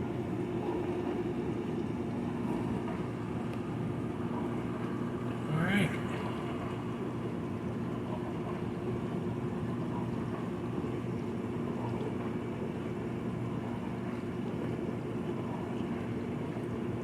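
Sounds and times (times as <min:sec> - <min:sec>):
dishwasher motor humming: 0:00.0 - 0:17.0.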